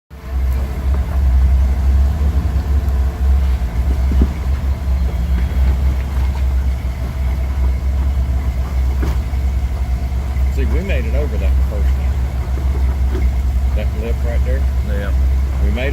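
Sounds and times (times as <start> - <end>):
vehicle engine rumbling: 0.1 - 15.9.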